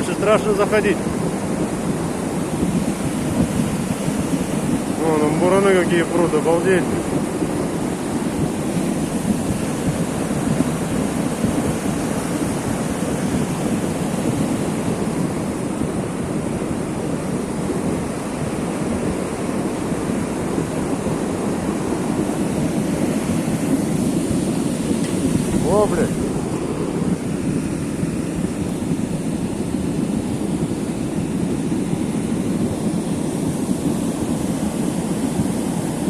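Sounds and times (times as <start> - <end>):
creek whitewater rushing: 0.0 - 36.0.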